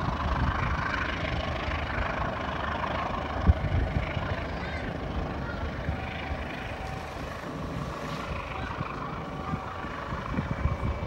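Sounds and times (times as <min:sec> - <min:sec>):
passenger train rumble: 0:00.0 - 0:11.0.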